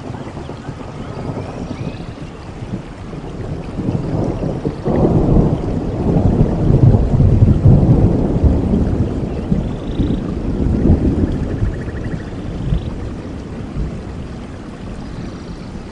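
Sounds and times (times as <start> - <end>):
rain hissing: 0.0 - 15.9
thunder rumbling: 0.0 - 15.9.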